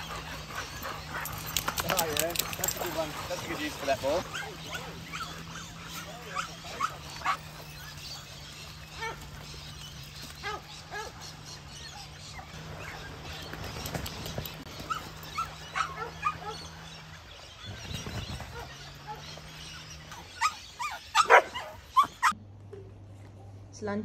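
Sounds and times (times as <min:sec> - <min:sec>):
dogs yipping and barking: 0:00.0 - 0:22.4.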